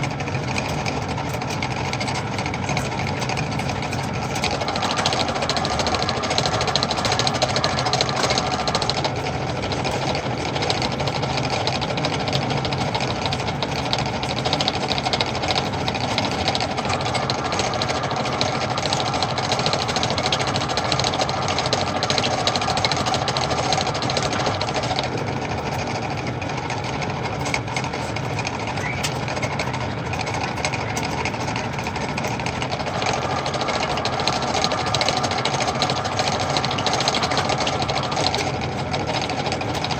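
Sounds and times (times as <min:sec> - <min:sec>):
metal lathe humming and rattling: 0:00.0 - 0:39.9.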